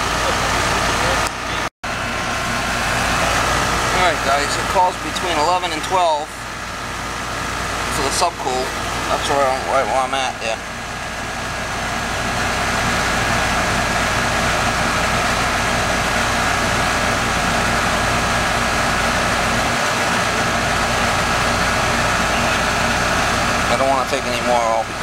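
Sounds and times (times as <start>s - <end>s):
air conditioner fan rush: 0.0s - 25.0s
low compressor hum: 0.0s - 25.0s.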